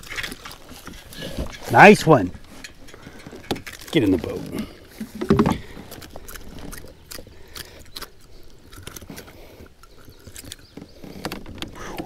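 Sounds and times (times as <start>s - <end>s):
clicks and taps handling fish: 0.0s - 7.9s, 8.8s - 12.0s.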